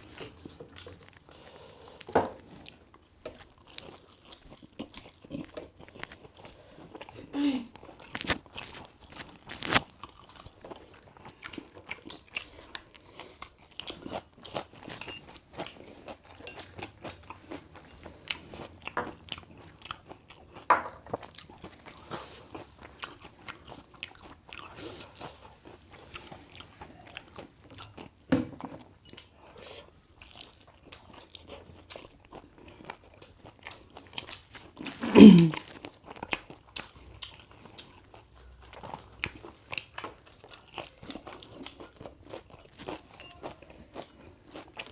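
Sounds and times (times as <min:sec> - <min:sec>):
person chewing and crunching food: 0:00.0 - 0:44.9.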